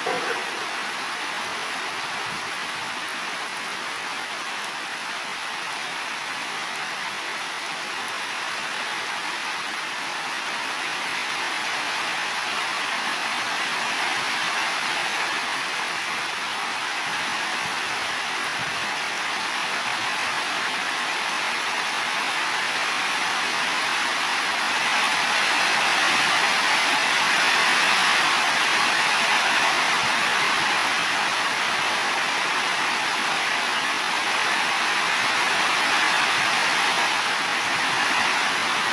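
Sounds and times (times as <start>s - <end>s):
heavy rain on roofs: 0.0s - 38.9s.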